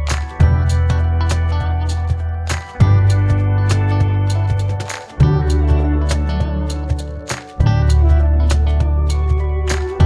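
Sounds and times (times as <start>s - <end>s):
bass-heavy music with steady beat: 0.0s - 10.0s.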